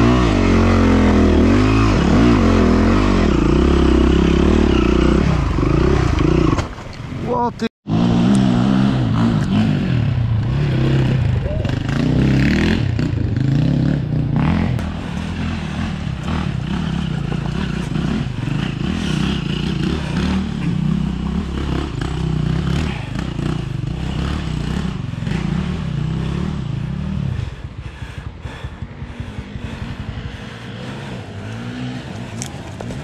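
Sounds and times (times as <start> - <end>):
motorcycle engine revving and idling: 0.0 - 7.2, 7.9 - 33.0.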